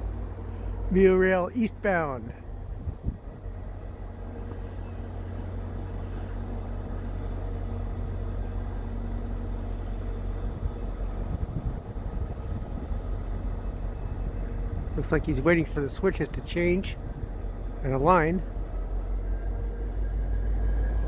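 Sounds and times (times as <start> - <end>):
diesel locomotive engine hum: 0.0 - 21.0.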